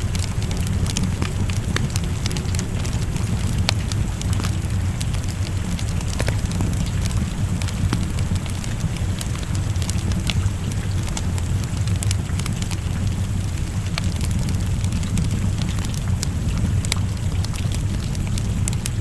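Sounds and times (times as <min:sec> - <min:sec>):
rain rushing: 0:00.0 - 0:19.0
wood fire crackling and popping: 0:00.0 - 0:19.0.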